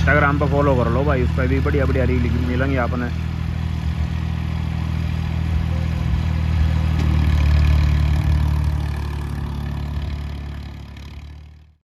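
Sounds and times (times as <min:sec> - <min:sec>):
tractor engine running: 0:00.0 - 0:11.8.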